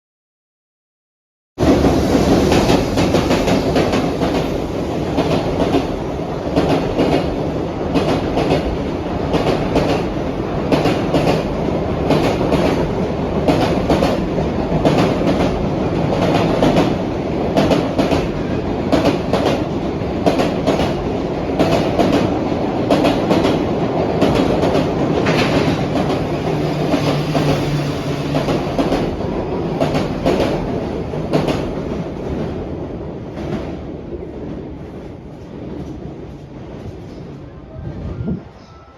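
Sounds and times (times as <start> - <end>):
freight train cars rolling: 1.6 - 38.9.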